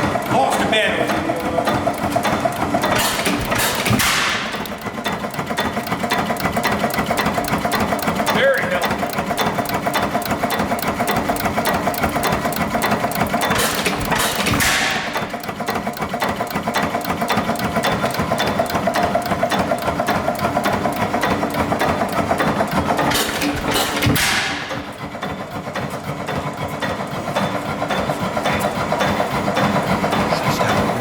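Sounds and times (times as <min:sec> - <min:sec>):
engine fast even clatter: 0:00.0 - 0:31.0.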